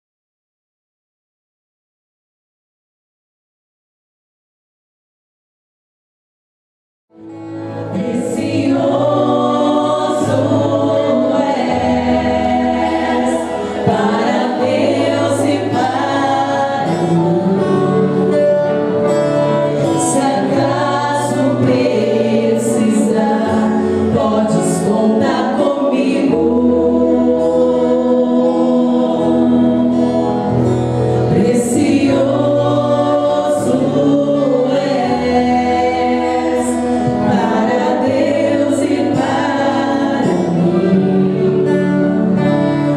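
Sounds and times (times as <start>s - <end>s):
choir singing with accompaniment: 7.3s - 42.9s
low held bass notes: 7.6s - 42.9s.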